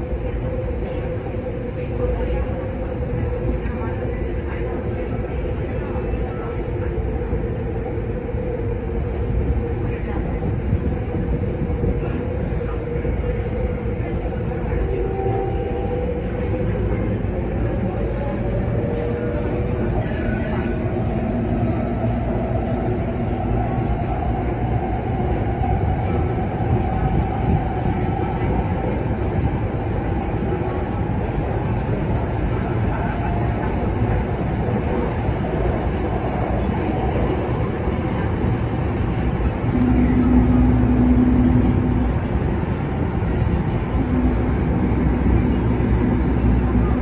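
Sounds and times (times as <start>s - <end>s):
steady hum: 0.0s - 47.0s
train wheels rumbling on track: 0.0s - 47.0s.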